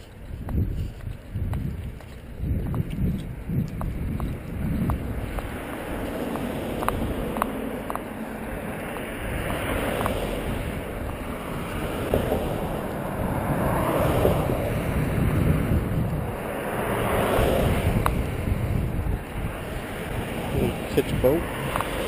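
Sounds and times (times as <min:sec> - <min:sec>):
road traffic passing: 0:00.0 - 0:22.0
wind rumbling on microphone: 0:00.0 - 0:22.0.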